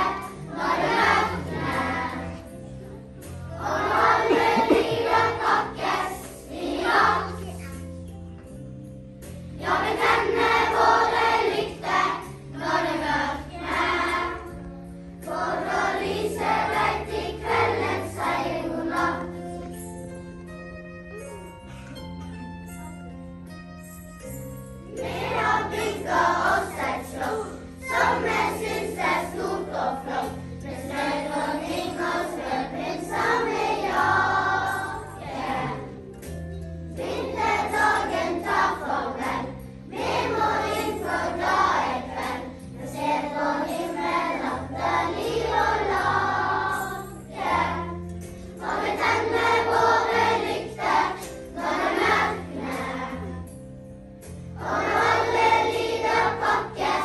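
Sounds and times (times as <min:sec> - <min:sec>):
children's choir singing: 0:00.0 - 0:07.9, 0:09.5 - 0:19.8, 0:24.9 - 0:36.3, 0:36.9 - 0:53.6, 0:54.4 - 0:57.0.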